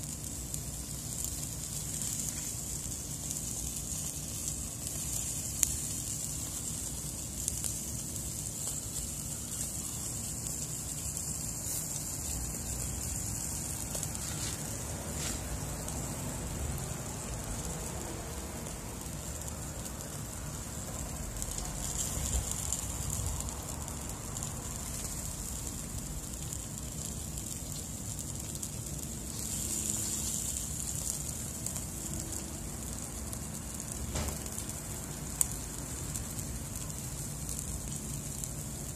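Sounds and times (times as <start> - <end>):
crackles and pops: 0.0 - 38.9
fish sizzling on charcoal: 0.0 - 38.9.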